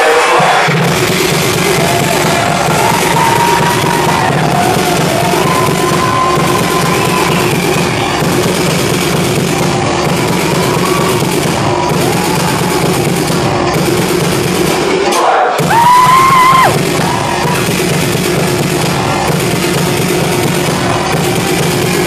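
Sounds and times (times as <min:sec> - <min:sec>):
loud techno over sound system: 0:00.0 - 0:22.0.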